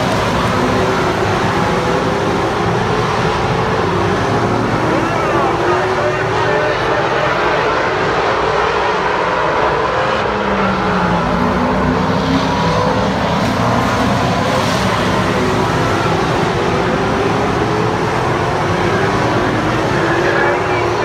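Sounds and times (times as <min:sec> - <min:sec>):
cars passing by: 0:00.0 - 0:21.0
racing car engines droning: 0:00.0 - 0:21.0.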